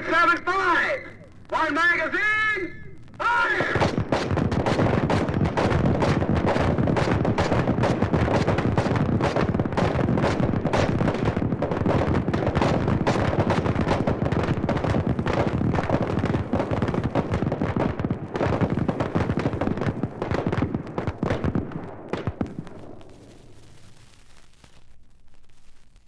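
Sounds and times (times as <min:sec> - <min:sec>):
dense overlapping gunfire: 0:00.0 - 0:23.6.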